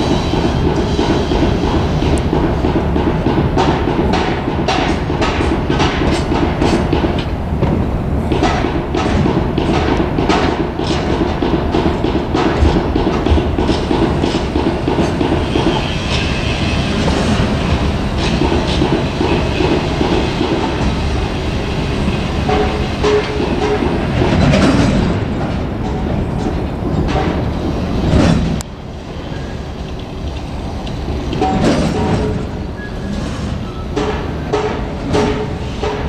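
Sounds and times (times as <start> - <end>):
train wheels clattering over rail joints: 0.0 - 36.0.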